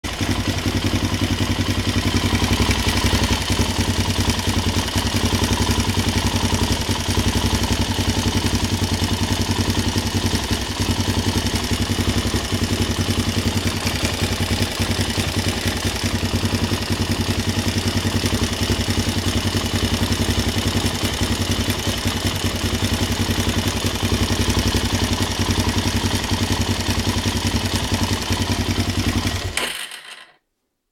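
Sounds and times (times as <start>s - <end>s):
quad engine idling: 0.0s - 29.6s.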